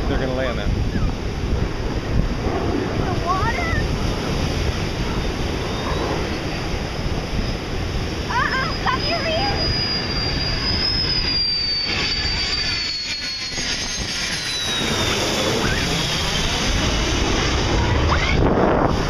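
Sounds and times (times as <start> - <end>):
fighter jet passing overhead: 0.0 - 19.0.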